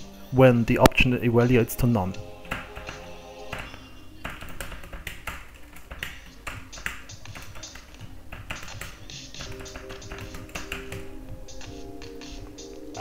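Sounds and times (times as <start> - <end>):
computer keyboard typing: 2.5 - 13.0.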